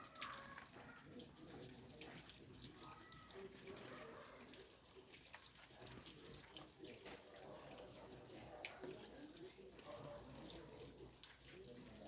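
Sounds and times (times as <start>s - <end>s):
faint rain falling: 0.0s - 12.0s
raindrops ticking: 0.0s - 12.0s.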